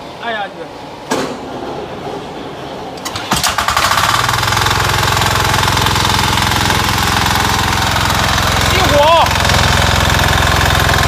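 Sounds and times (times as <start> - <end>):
diesel engine starting and running: 1.6 - 11.0.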